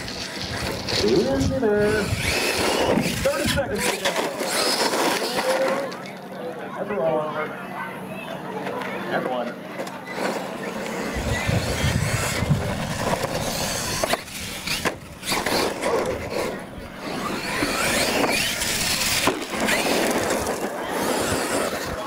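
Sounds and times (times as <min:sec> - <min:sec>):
toy truck motor whining: 0:00.0 - 0:06.2, 0:09.8 - 0:22.0.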